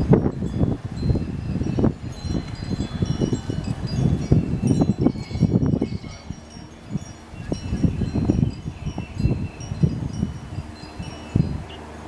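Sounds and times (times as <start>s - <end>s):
wind chimes tinkling: 0.0s - 12.0s
wind rumble on microphone: 0.0s - 12.0s.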